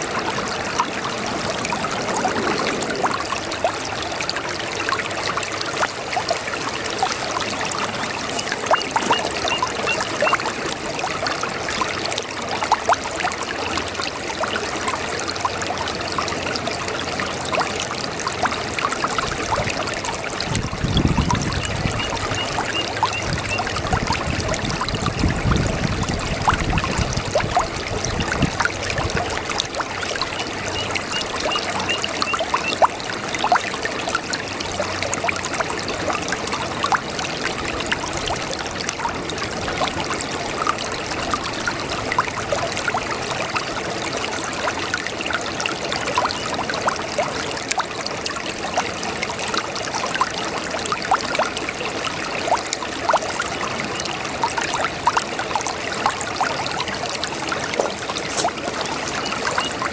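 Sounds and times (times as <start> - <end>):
brook babbling over stones: 0.0 - 59.9
small water splashes: 0.0 - 59.9.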